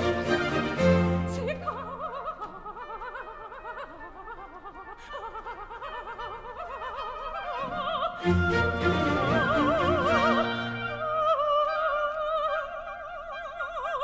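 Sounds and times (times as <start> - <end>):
soprano singing runs: 0.0 - 14.0.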